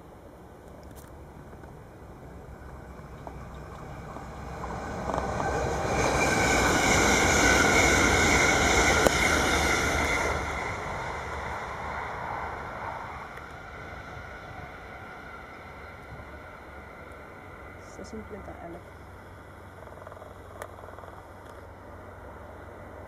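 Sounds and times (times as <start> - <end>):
train wheels rushing on rails: 1.4 - 23.0.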